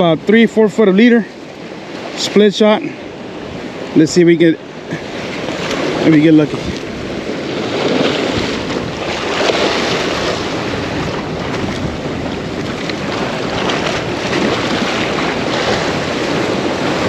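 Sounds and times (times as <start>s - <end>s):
ocean surf washing in: 0.0s - 17.0s
wind buffeting microphone: 1.2s - 17.0s.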